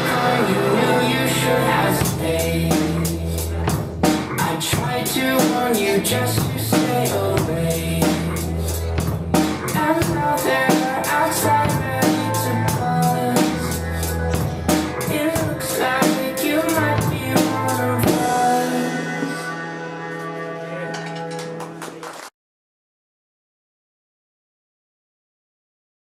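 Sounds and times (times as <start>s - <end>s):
drum kit playing: 0.0s - 22.0s
rock backing track: 0.0s - 22.0s.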